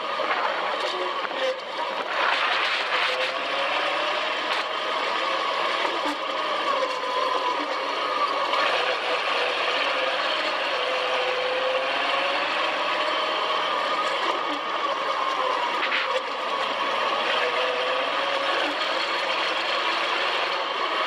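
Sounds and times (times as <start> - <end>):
dune buggy engine running: 0.0 - 21.0.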